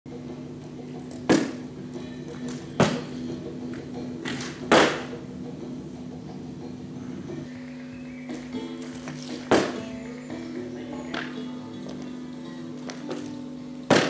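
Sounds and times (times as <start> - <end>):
background music with low drone: 0.1 - 14.0.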